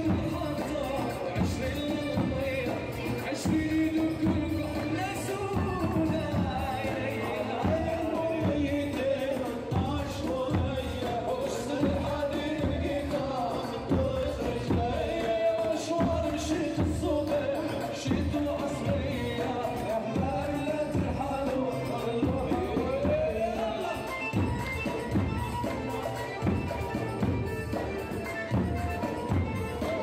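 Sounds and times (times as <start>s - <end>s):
drum beat: 0.0s - 30.0s.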